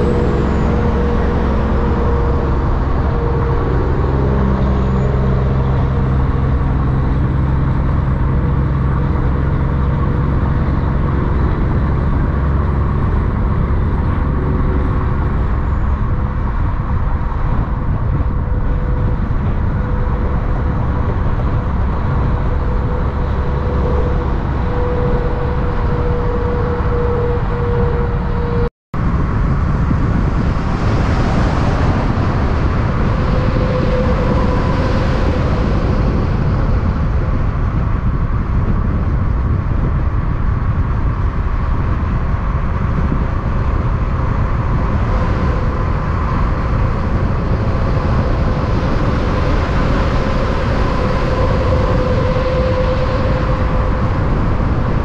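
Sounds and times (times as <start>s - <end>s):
diesel truck engines rumbling: 0.0s - 55.0s.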